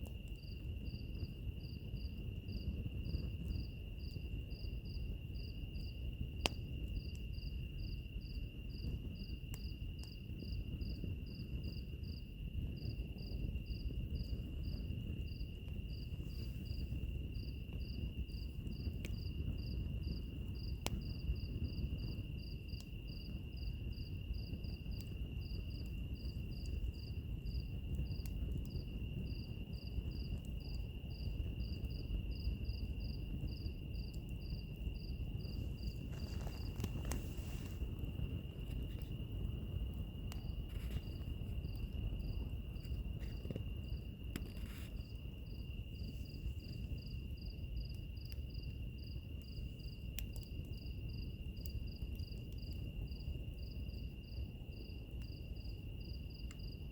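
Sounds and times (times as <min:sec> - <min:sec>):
crickets chirping: 0:00.0 - 0:56.9
wood fire crackling: 0:00.0 - 0:56.9.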